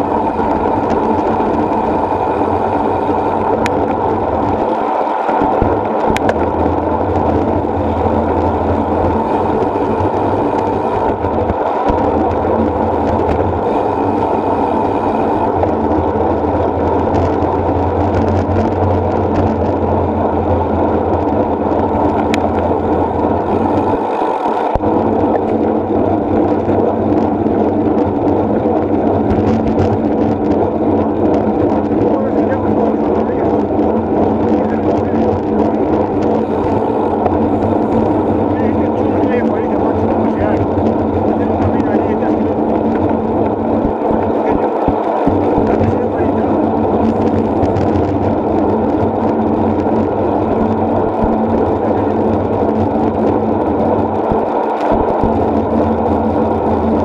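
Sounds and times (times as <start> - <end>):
road rumble: 0.0 - 57.0
wind rush: 0.0 - 57.0.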